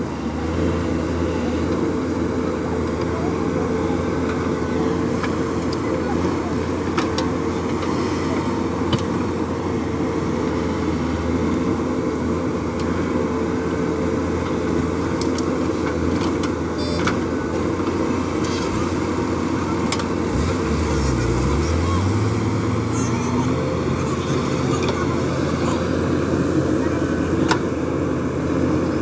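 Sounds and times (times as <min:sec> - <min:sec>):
diesel engine under load: 0:00.0 - 0:29.0.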